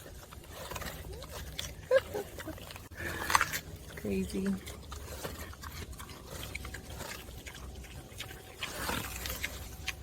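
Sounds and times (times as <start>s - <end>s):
pigs chomping and smacking: 0.0s - 10.0s
pigs grunting: 0.0s - 10.0s.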